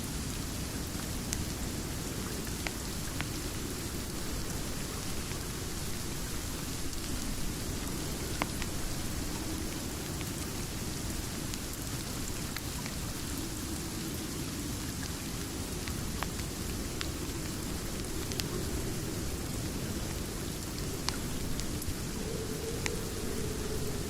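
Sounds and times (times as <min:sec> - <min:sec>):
heavy rain: 0:00.0 - 0:24.0
wood fire crackles: 0:00.1 - 0:24.0.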